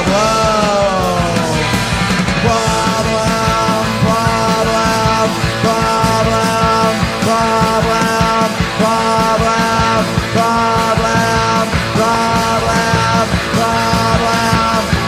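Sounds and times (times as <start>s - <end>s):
bass guitar: 0.0s - 15.0s
distorted electric guitar: 0.0s - 15.0s
pounding drums: 0.0s - 15.0s.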